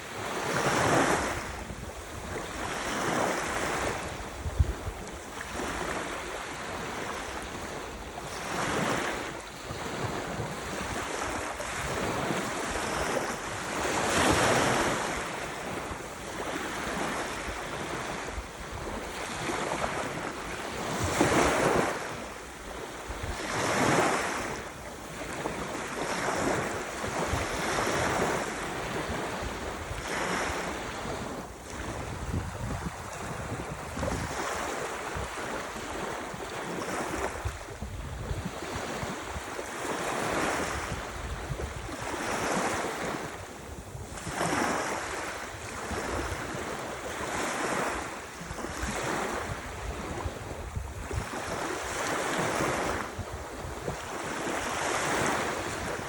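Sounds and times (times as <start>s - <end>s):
ocean waves breaking: 0.0s - 56.0s.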